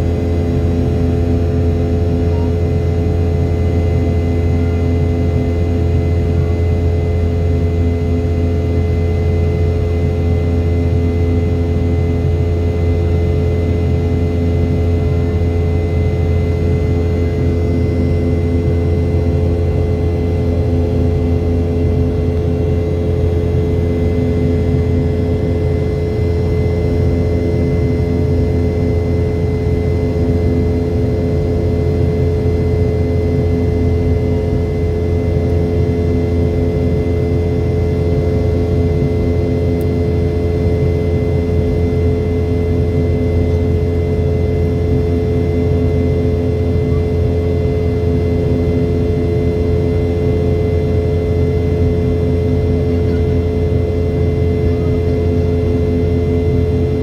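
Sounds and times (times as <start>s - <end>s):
constant hums: 0.0s - 57.0s
jet engine cabin drone: 0.0s - 57.0s.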